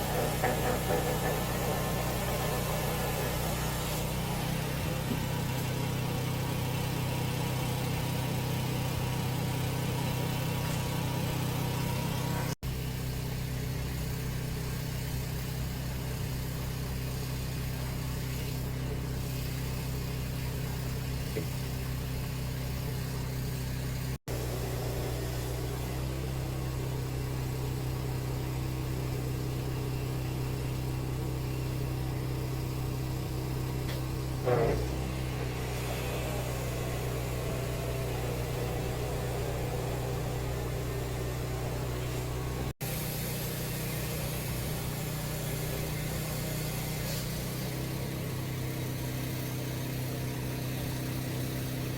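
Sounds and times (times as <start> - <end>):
engine humming: 0.0 - 51.9.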